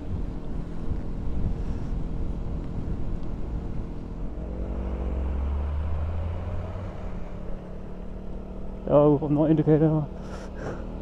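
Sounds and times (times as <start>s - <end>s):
lorry engine drone: 0.0s - 11.0s.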